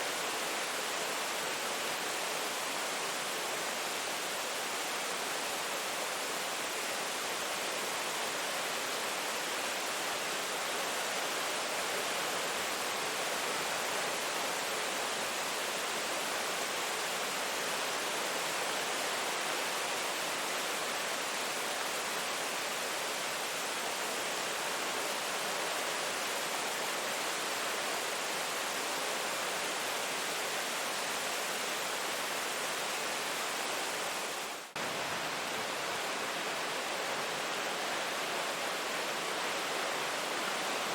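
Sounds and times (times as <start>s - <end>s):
dense rain hiss: 0.0s - 40.9s.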